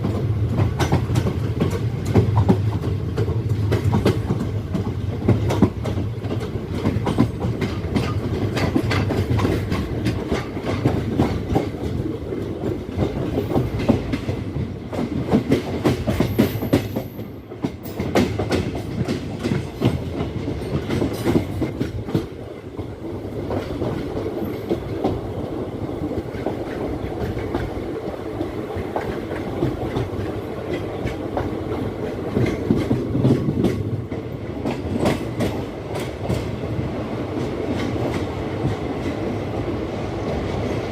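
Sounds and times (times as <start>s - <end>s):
train wheels clattering over rail joints: 0.0s - 39.4s
train rumble: 0.0s - 40.9s.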